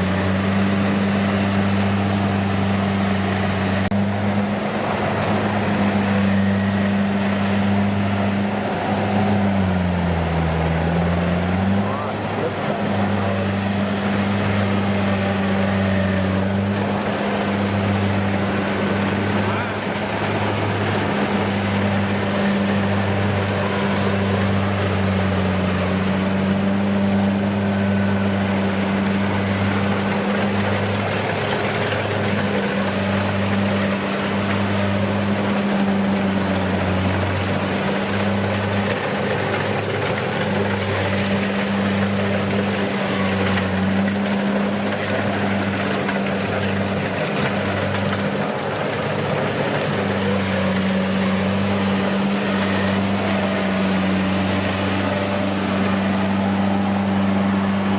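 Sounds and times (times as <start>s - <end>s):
broad mechanical noise: 0.0s - 57.9s
diesel engine throbbing: 0.0s - 57.9s.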